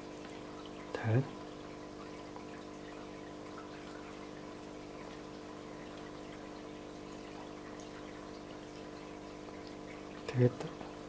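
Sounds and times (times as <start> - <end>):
water pump hum: 0.0 - 11.0
water trickling: 0.0 - 11.0.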